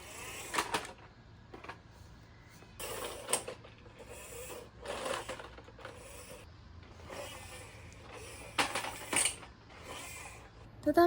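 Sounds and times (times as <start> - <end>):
rubbing and scraping handling noise: 0.0 - 10.7.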